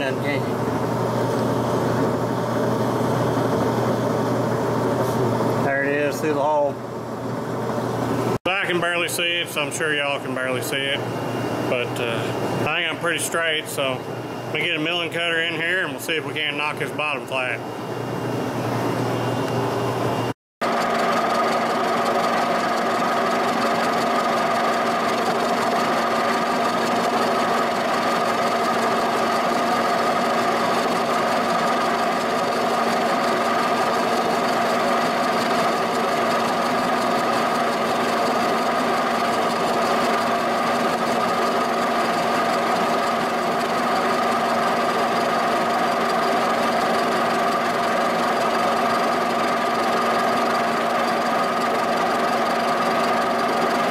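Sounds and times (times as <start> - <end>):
boring mill whine: 0.0 - 53.9.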